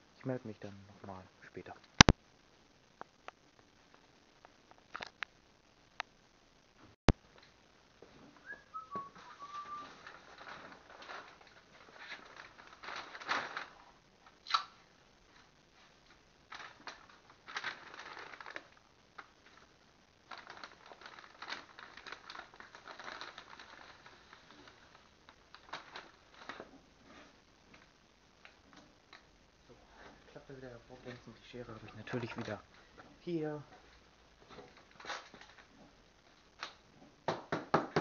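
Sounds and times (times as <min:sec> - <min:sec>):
rustling and handling noises: 0:02.9 - 0:37.2.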